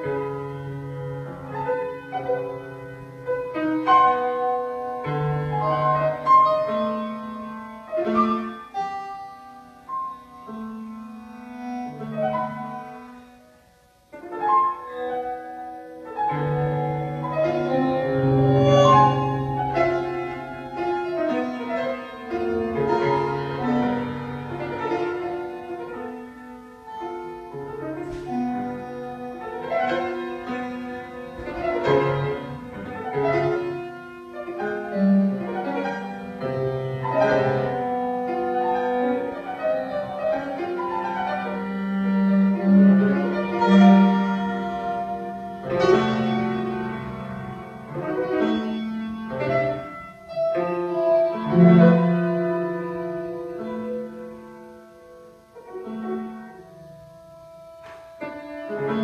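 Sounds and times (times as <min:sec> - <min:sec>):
piano notes and chords: 0:00.0 - 0:59.0.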